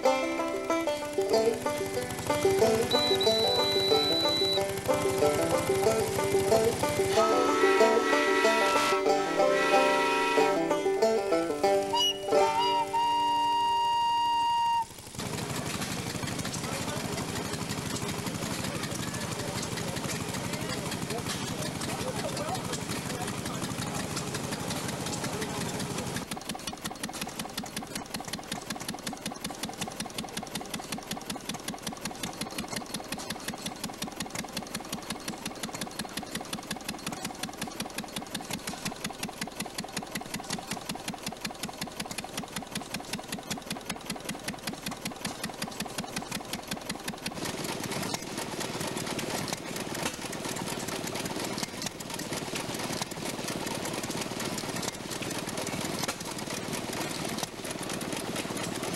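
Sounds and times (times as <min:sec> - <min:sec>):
old engine uneven beat with pops: 0:00.0 - 0:58.9
stationary engine rapid even beat: 0:00.0 - 0:58.9.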